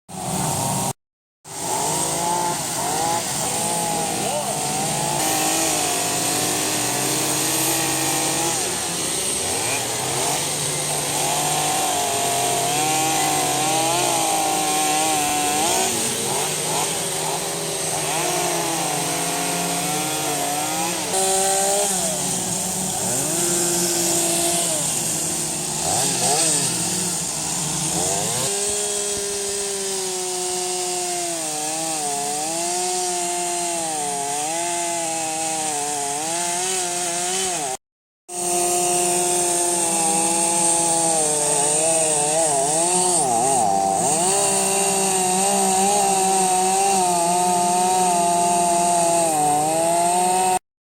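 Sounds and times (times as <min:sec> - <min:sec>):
chainsaw cutting wood: 0:00.1 - 0:50.6.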